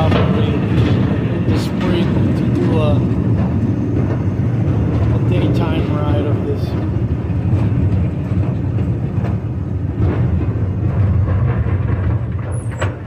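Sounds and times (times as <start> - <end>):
rail clicks: 0.0 - 13.0
wheels rumbling on rails: 0.0 - 13.0.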